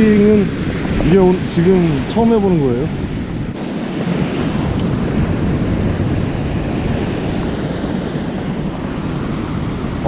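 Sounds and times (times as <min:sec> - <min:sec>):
surf washing up beach: 0:00.0 - 0:10.0
wind buffeting microphone: 0:00.0 - 0:10.0.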